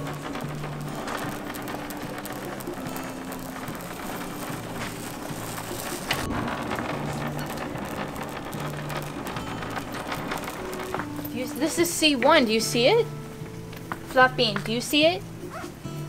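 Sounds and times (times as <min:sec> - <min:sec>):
shopping cart wheels rattling: 0:00.0 - 0:15.7.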